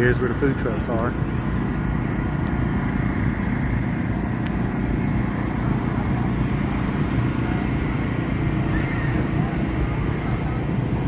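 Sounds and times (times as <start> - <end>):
faint whining tones: 0.0 - 11.0
low drone of engine machinery: 0.0 - 11.0.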